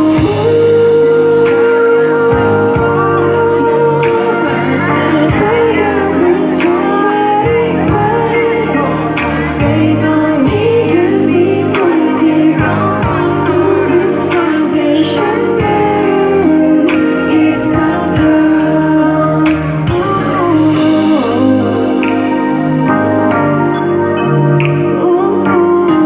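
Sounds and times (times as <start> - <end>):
backing music with drum beat: 0.0 - 23.7, 24.6 - 25.2
person singing: 0.0 - 26.0.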